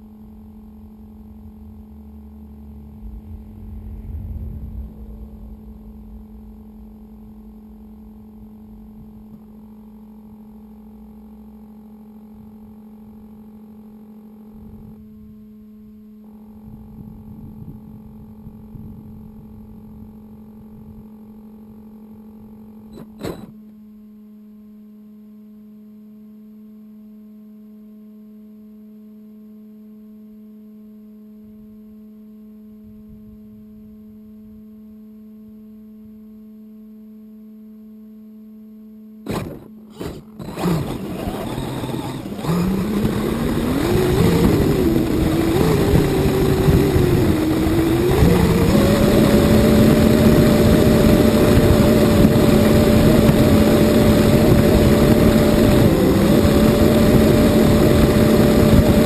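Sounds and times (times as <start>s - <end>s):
electrical hum: 0.0s - 25.8s, 32.4s - 59.0s.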